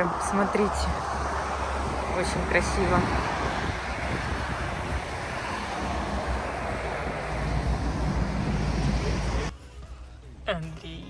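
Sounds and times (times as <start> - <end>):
wind buffeting microphone: 0.0 - 9.5
lorry passing: 0.0 - 10.4
highway traffic rushing: 0.0 - 10.5.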